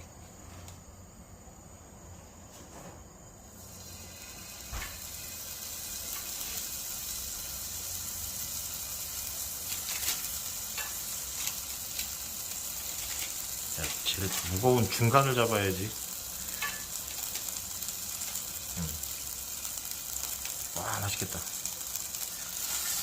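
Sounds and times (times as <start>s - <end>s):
steak sizzling on a hot grill: 3.4s - 23.0s
fat crackling and spitting: 3.6s - 23.0s.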